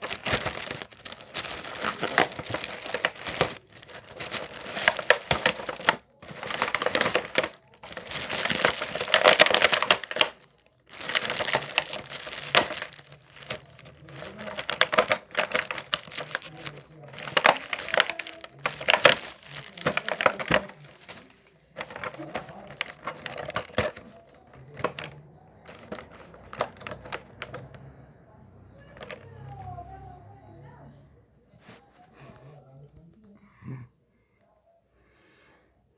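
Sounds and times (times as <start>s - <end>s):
packaging crinkling and rustling: 0.0s - 27.9s, 28.8s - 29.9s.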